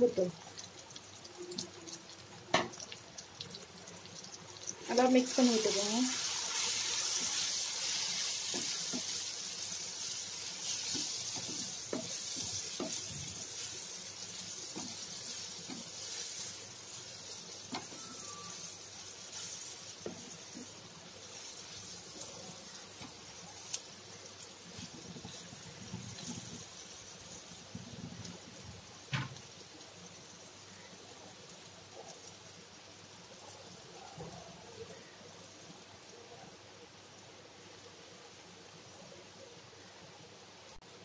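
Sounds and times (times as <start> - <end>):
masala sizzling in oil: 0.0 - 41.0.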